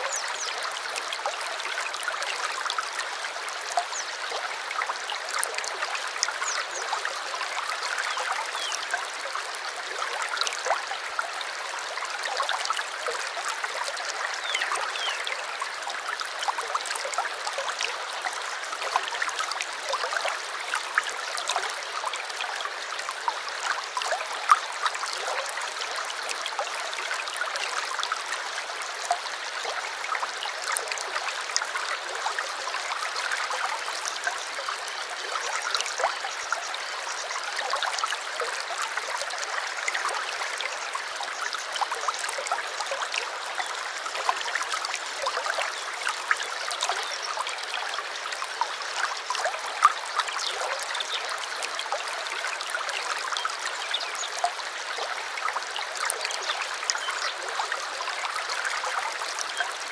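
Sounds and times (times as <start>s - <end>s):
stream trickling and gurgling: 0.0s - 59.9s.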